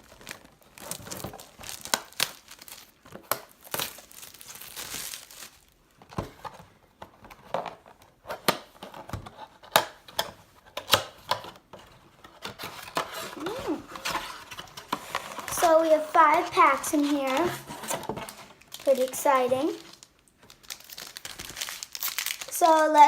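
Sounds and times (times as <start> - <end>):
plastic wrapping tearing and crinkling: 0.0 - 11.6, 12.4 - 23.0.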